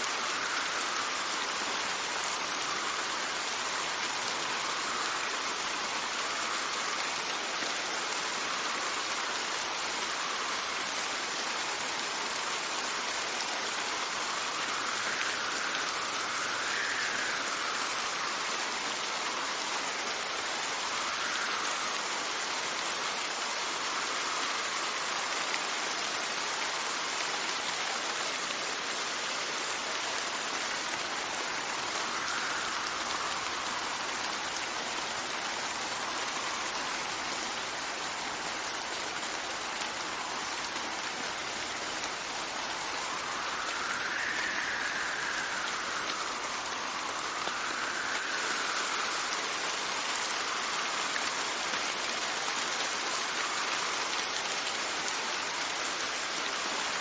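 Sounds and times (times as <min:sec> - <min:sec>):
wind gusts: 0:00.0 - 0:54.4
steady rain: 0:00.0 - 0:57.0.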